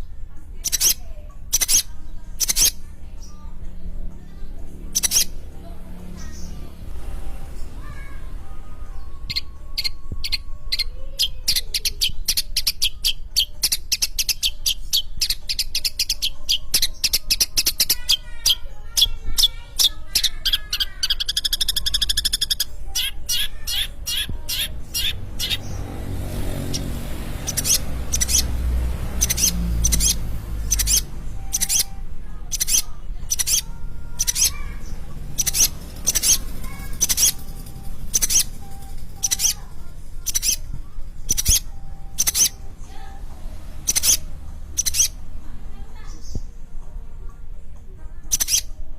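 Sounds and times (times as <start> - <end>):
shrike singing: 0.0 - 46.8, 48.2 - 48.9.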